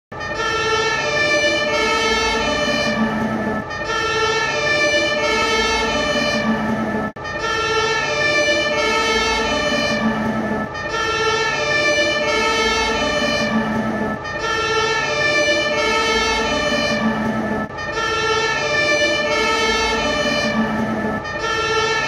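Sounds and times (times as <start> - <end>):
two-tone siren: 0.1 - 22.0.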